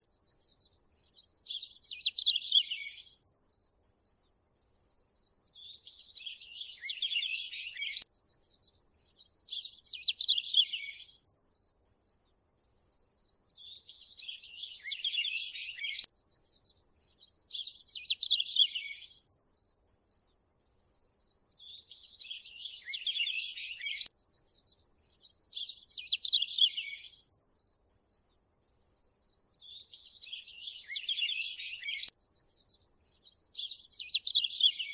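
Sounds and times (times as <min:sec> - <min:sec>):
high-pitched insect hiss: 0:00.0 - 0:34.9
songbird singing: 0:00.5 - 0:34.9.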